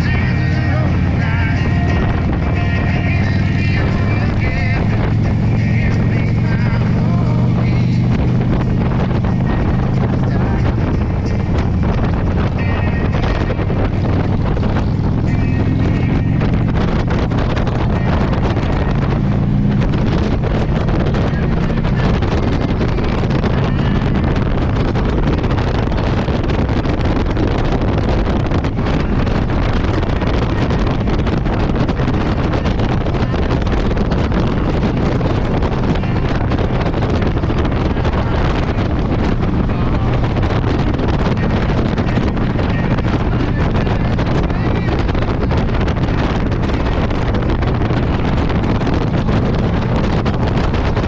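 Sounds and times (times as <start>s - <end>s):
motorcycle engine cruising: 0.0s - 51.0s
wind rush on microphone: 0.0s - 51.0s.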